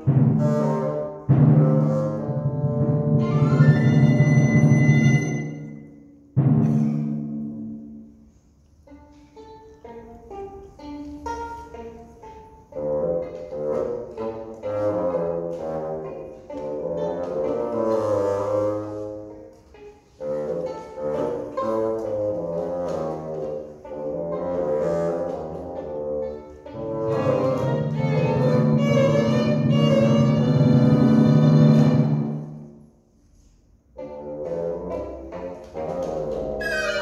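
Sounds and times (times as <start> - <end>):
violin and bassoon chamber music: 0.0 - 5.9, 8.6 - 37.0.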